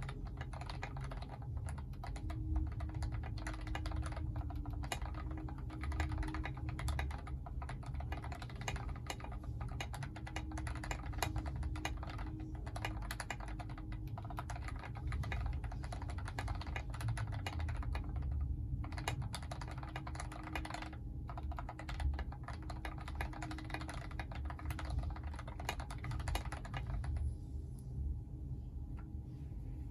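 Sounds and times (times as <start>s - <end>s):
typing on mechanical keyboard: 0.0s - 27.3s.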